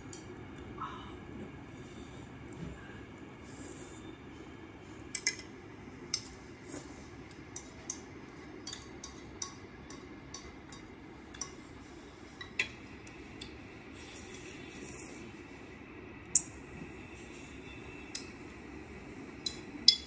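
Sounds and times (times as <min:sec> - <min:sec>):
low room noise: 0:00.0 - 0:20.0.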